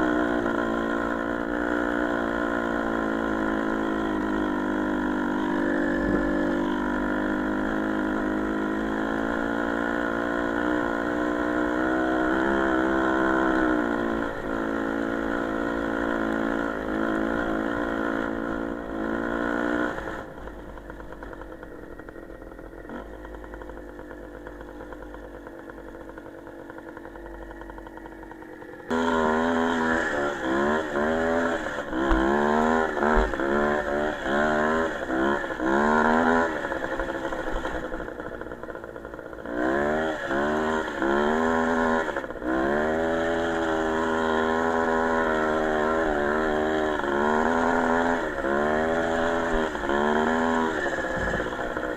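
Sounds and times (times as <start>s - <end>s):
small motorcycle engine revving: 0.0s - 51.9s.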